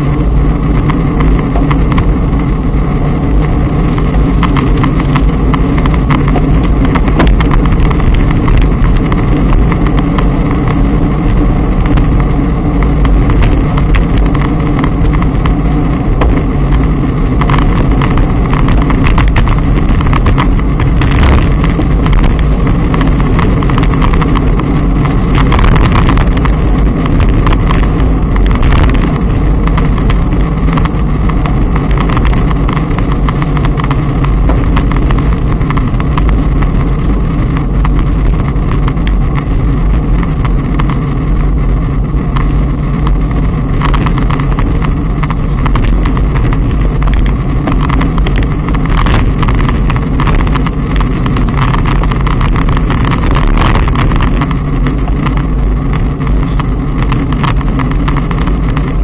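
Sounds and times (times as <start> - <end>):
rattles and knocks: 0.0 - 59.0
road rumble: 0.0 - 59.0
wind rush: 0.0 - 59.0.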